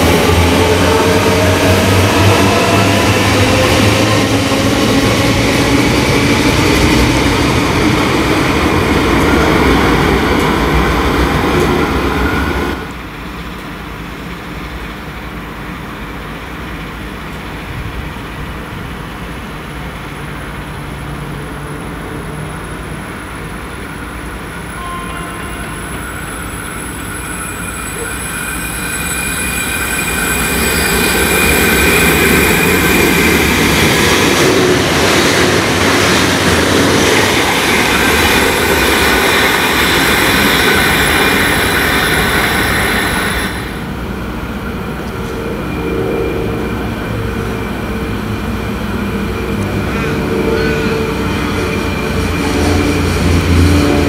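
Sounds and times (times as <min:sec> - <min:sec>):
diesel train passing by: 0:00.0 - 0:54.0
electric train running: 0:00.0 - 0:54.0.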